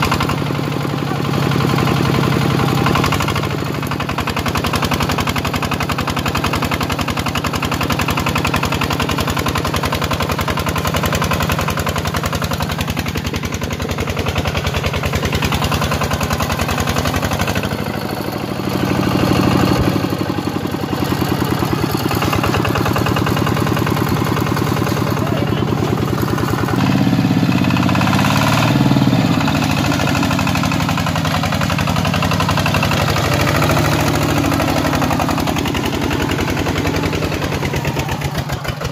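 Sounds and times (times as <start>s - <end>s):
walking tractor diesel engine chugging: 0.0s - 38.9s.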